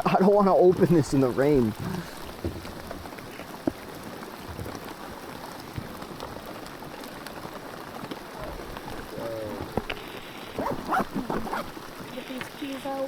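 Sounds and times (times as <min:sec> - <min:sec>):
heavy rain falling: 0:00.0 - 0:13.0
raindrops tapping near microphone: 0:00.0 - 0:13.0.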